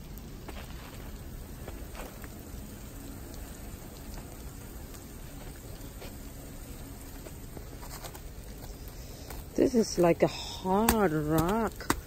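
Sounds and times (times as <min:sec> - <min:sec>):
freezing rain on icy snow: 0:00.0 - 0:12.0.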